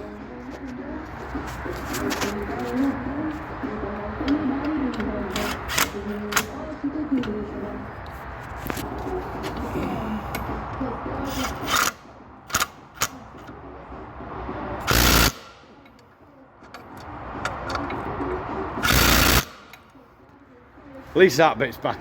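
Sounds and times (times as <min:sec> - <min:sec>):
parts clicking and knocking: 0:00.4 - 0:03.5, 0:04.2 - 0:13.7, 0:14.8 - 0:20.4.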